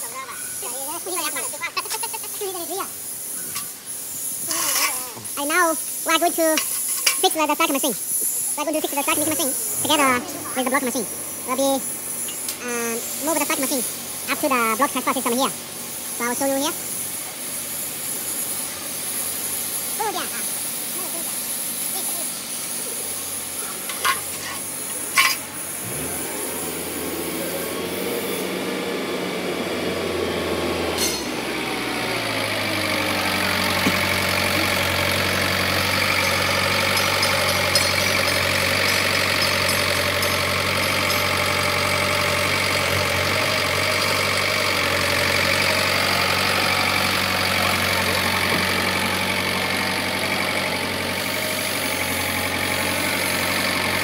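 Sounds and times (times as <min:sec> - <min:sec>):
forklift engine running: 0:07.3 - 0:54.0.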